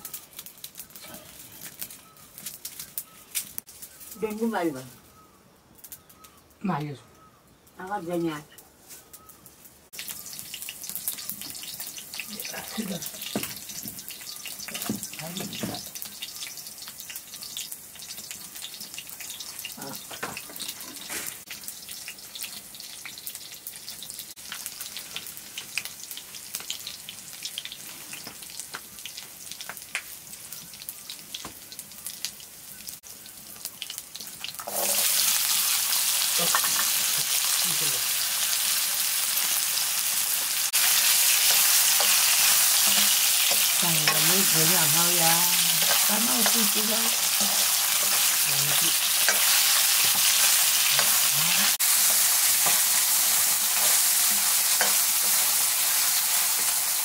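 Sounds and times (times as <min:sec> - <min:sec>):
potatoes sizzling in hot oil: 0:00.0 - 0:04.9, 0:09.0 - 0:57.0.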